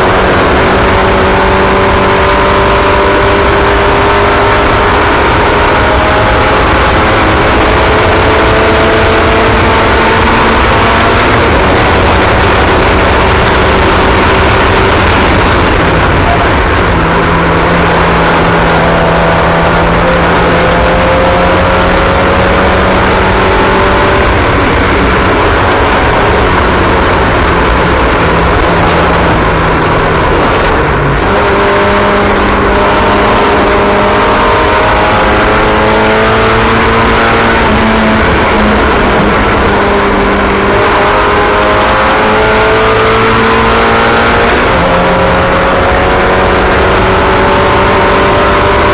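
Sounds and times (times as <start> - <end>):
small racing engines: 0.0 - 48.9.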